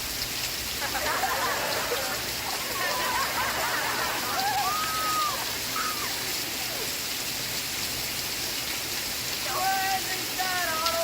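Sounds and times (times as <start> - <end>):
dense rain: 0.0 - 11.0.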